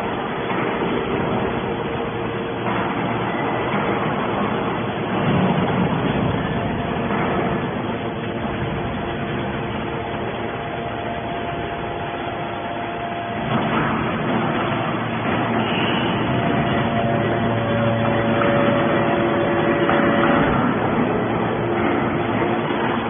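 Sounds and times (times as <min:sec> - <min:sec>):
hydraulic baler machine hum: 0:00.0 - 0:23.0.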